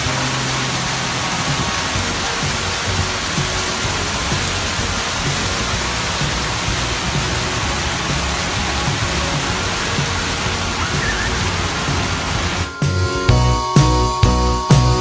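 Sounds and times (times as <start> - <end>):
fountain water jets spraying: 0.0 - 15.0
music: 0.0 - 15.0.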